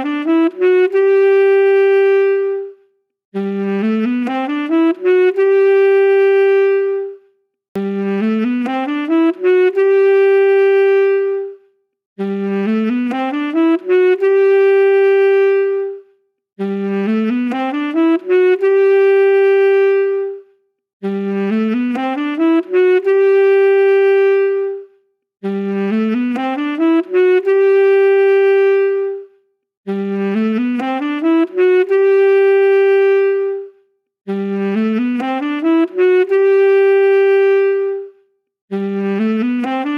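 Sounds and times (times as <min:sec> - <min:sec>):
saxophone phrase: 0:00.0 - 0:02.8, 0:03.4 - 0:07.2, 0:07.8 - 0:11.6, 0:12.2 - 0:20.4, 0:21.0 - 0:29.3, 0:29.9 - 0:33.7, 0:34.3 - 0:39.9.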